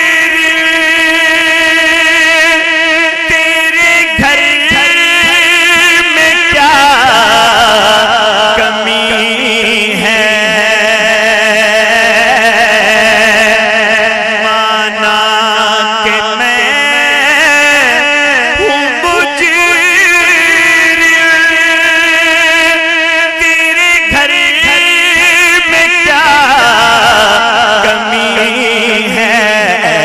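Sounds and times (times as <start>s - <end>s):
man singing with vibrato: 0.0s - 30.0s.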